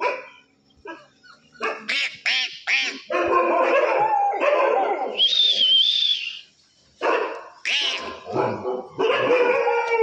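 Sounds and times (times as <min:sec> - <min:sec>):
dogs barking: 0:00.0 - 0:05.2, 0:07.0 - 0:10.0.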